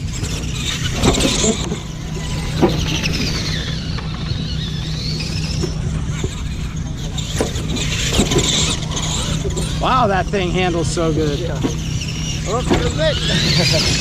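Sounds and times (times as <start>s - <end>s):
electric motors whining: 0.0s - 14.0s
steady low hum: 0.0s - 14.0s.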